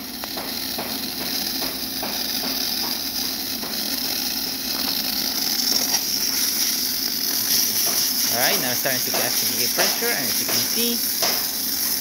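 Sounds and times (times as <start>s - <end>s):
espresso machine humming: 0.0s - 12.0s
steam wand hissing: 0.0s - 12.0s.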